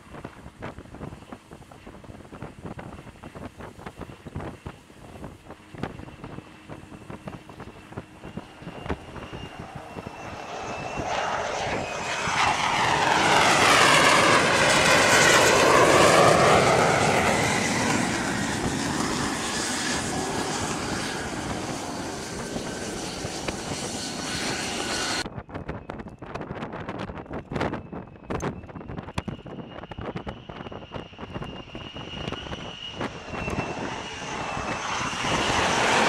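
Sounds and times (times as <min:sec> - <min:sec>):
fighter jet engine passing: 0:00.0 - 0:25.3, 0:29.6 - 0:36.0.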